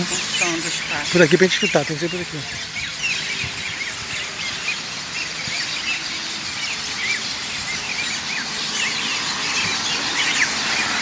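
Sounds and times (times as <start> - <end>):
birds chirping: 0.0 - 11.0
city traffic hum: 0.0 - 11.0.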